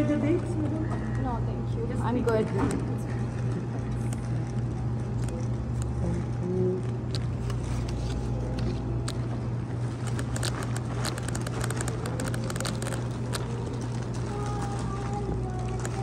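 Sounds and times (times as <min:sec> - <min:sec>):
steady low hum: 0:00.0 - 0:16.0
plastic bags crinkling: 0:02.2 - 0:16.0.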